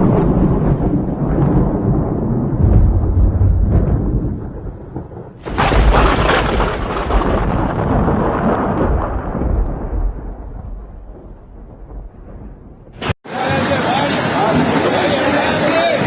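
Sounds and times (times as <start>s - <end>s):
heavy rain: 0.0s - 16.0s
loud thunderclap: 0.0s - 16.0s
low thunder rumble: 0.0s - 16.0s.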